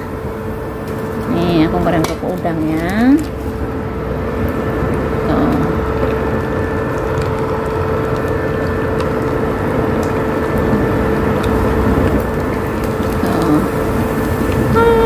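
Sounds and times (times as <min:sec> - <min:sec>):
hot oil crackling and popping: 0:00.0 - 0:15.0
induction cooker fan humming: 0:00.0 - 0:15.0.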